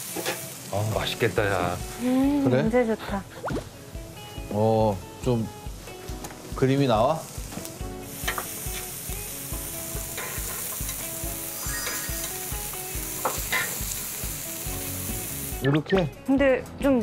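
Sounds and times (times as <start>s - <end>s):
pork sizzling in a pan: 0.0s - 16.1s.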